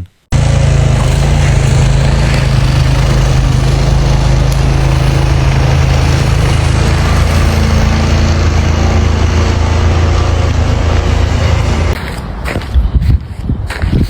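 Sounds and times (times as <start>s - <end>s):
engine humming: 0.0s - 13.8s.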